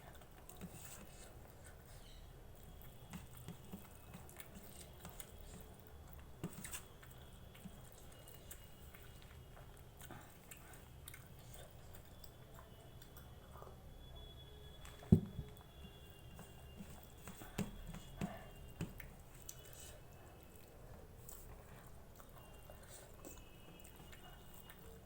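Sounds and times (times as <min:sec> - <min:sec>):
chewing and eating: 0:00.0 - 0:25.0.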